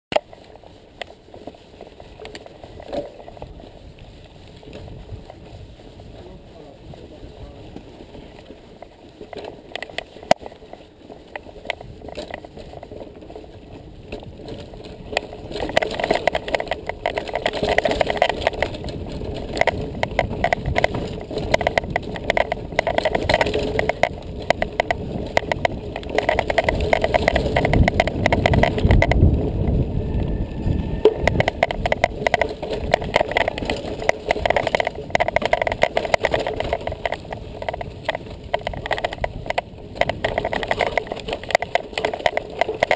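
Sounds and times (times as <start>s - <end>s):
sharp clicks and knocks: 0.1s - 3.6s, 8.4s - 29.8s, 30.6s - 42.9s
bike rattling and clattering: 0.1s - 42.9s
tyres rolling over dirt: 0.1s - 42.9s.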